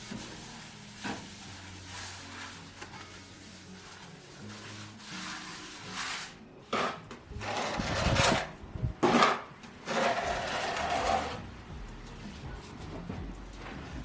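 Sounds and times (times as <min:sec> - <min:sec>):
scraping strokes on hard surface: 0:00.2 - 0:11.4.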